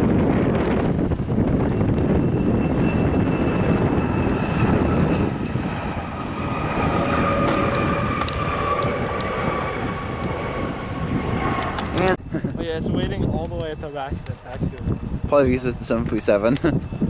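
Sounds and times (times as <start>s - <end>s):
high engine whine: 0.0s - 17.0s
jet engines rumbling: 0.0s - 17.0s.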